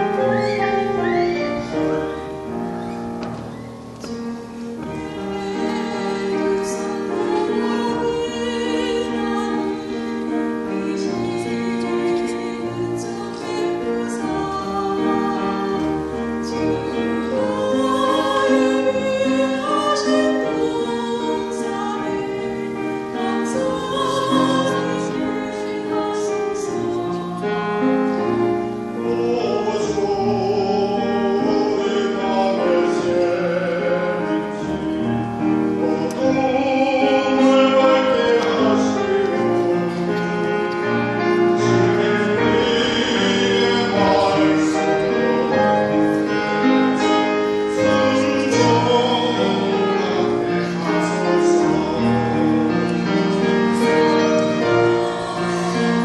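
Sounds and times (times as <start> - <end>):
hymn singing with vibrato: 0.0 - 56.0.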